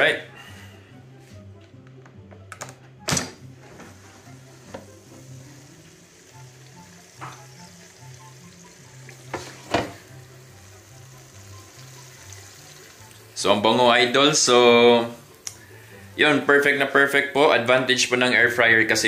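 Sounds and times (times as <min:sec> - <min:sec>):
faint sizzling: 0:03.5 - 0:19.0.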